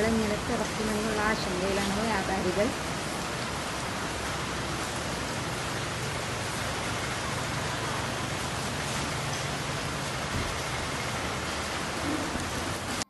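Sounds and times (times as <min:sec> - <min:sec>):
rain falling on standing water: 0:00.0 - 0:13.0.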